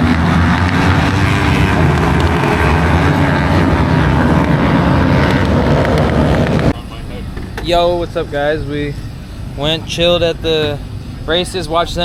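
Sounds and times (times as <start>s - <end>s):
motorcycle engines droning: 0.0s - 12.0s.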